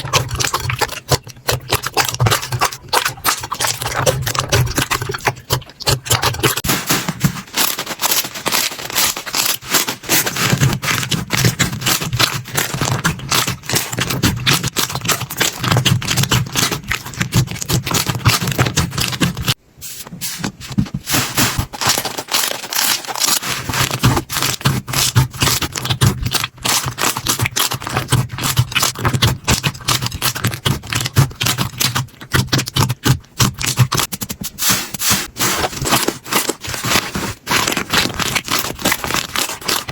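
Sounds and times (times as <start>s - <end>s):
slime crackling and popping: 0.0s - 19.6s, 21.1s - 39.9s.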